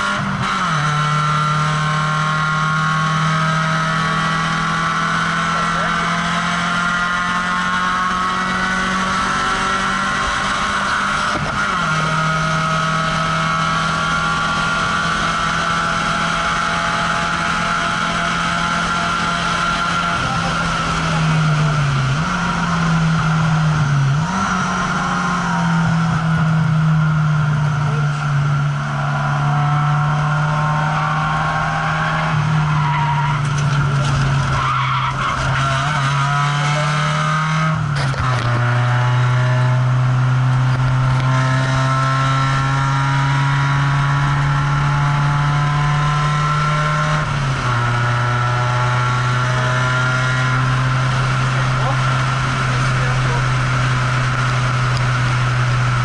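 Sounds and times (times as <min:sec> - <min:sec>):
car engine drone: 0:00.0 - 0:56.0
road and wind noise: 0:00.0 - 0:56.0.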